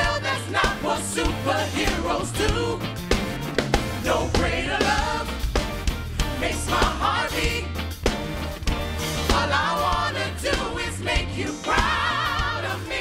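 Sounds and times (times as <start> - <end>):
gospel choir singing: 0.0 - 8.1, 9.1 - 13.0
instrumental backing: 0.2 - 13.0.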